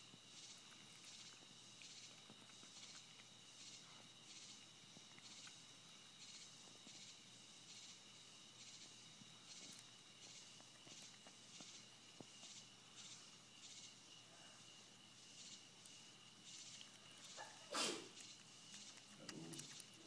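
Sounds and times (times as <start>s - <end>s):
faint ticks and rustles: 0.0s - 20.0s
insect chirping: 0.0s - 20.0s.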